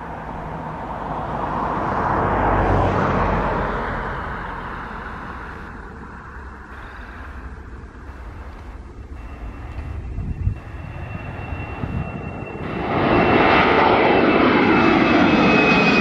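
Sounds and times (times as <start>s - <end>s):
jet engines at takeoff: 0.0s - 16.0s.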